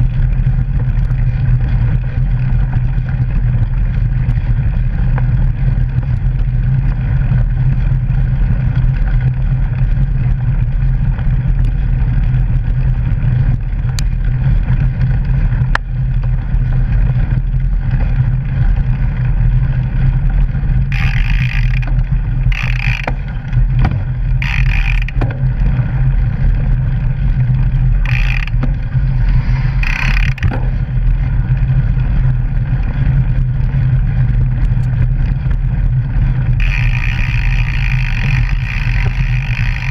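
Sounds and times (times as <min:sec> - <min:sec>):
bike rolling over gravel trail: 0:00.0 - 0:39.9
wind on microphone: 0:00.0 - 0:39.9.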